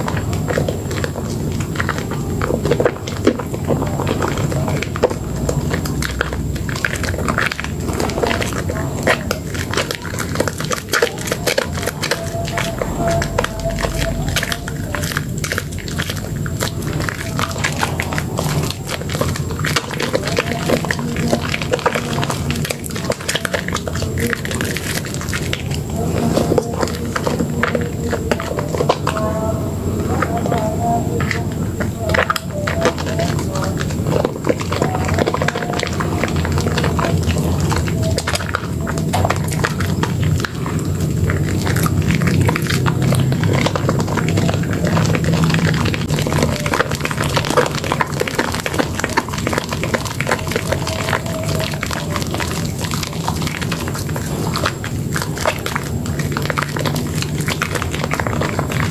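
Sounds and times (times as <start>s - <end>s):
wet squelching of soap lather: 0.0s - 58.9s.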